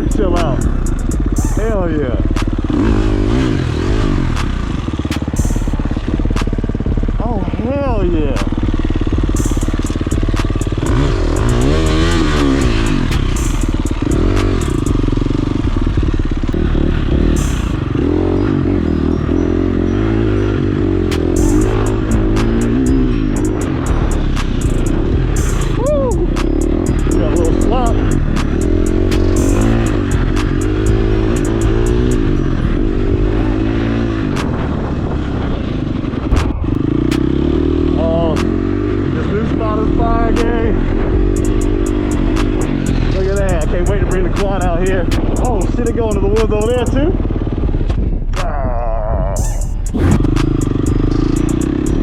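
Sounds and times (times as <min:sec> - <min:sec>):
sharp ticks: 0:00.0 - 0:07.2, 0:08.2 - 0:34.7, 0:36.3 - 0:48.5, 0:49.4 - 0:52.0
dirt bike engine revving: 0:00.0 - 0:48.7, 0:49.3 - 0:52.0.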